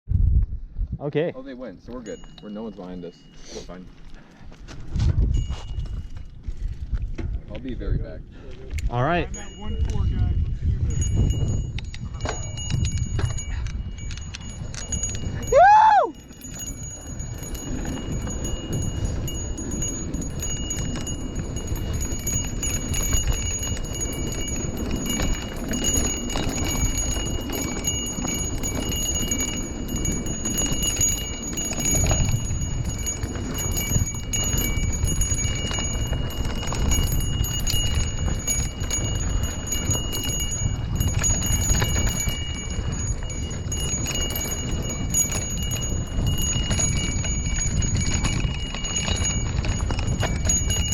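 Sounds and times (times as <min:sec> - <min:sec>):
heavy wind: 0:00.1 - 0:50.9
handlebar bell ringing: 0:01.6 - 0:06.8, 0:08.8 - 0:50.9.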